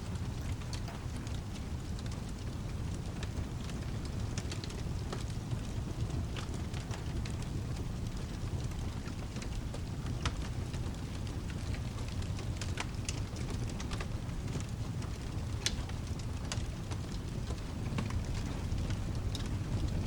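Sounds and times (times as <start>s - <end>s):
rain: 0.0s - 20.0s
wood fire crackling and popping: 0.0s - 20.0s.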